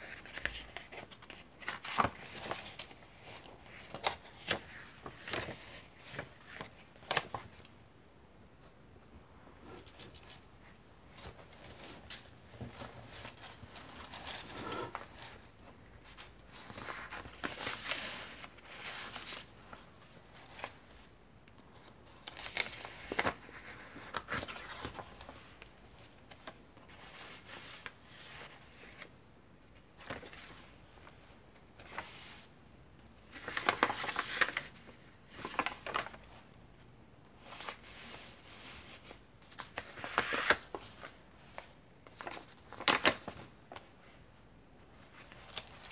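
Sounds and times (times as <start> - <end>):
paper pages rustling and crinkling: 0.0 - 7.8, 8.5 - 29.2, 29.8 - 32.5, 33.2 - 36.5, 37.4 - 44.2, 44.9 - 45.9.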